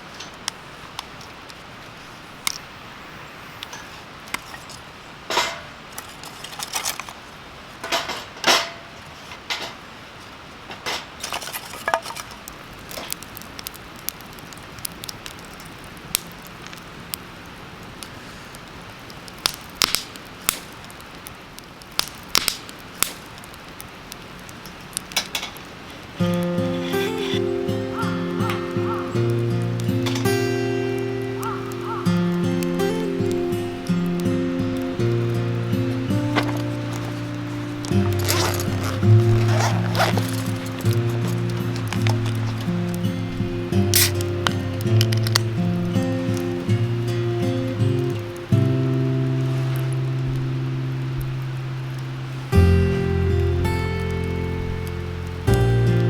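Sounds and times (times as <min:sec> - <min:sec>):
steady faint hiss: 0:00.0 - 0:56.0.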